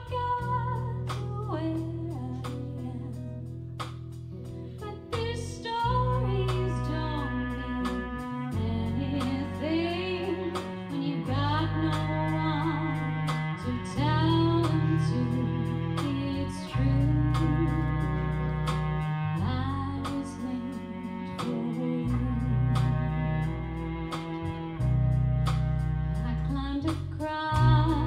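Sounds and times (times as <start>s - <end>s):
woman singing: 0.0s - 3.4s, 4.8s - 23.6s, 26.2s - 28.0s
bass guitar: 0.0s - 28.0s
violin: 0.0s - 28.0s.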